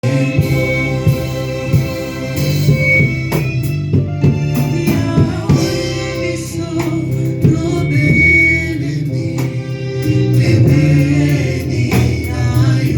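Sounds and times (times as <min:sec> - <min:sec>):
drum kit beat: 0:00.0 - 0:12.9
gospel singing: 0:00.0 - 0:12.9.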